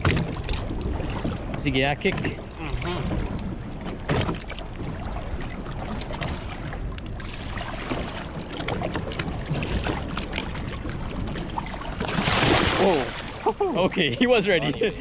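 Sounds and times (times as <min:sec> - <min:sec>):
small irregular splashes: 0:00.0 - 0:14.0
water sloshing against boat hull: 0:00.0 - 0:15.0.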